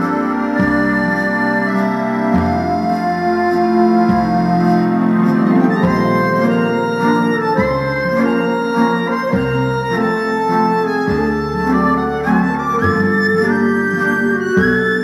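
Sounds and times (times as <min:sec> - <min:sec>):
instrumental music: 0:00.0 - 0:15.0.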